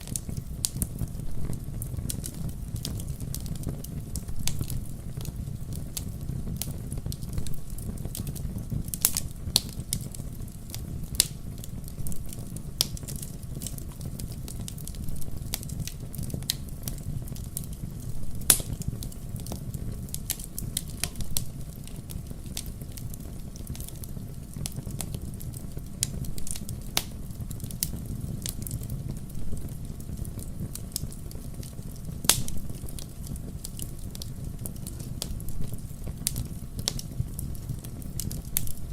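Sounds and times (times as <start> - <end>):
fire low rumble: 0.0 - 38.9
wood fire crackling: 0.0 - 38.9.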